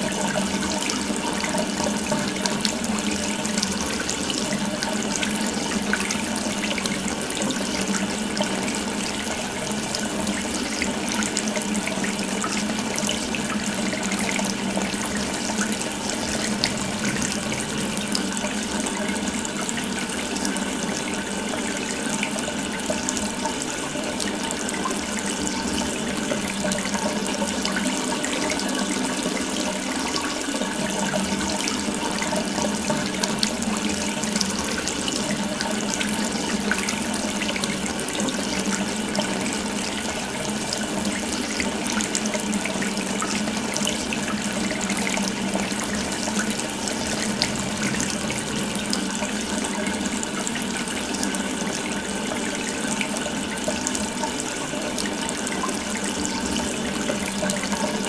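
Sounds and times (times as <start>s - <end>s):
water running from faucet: 0.0s - 58.0s.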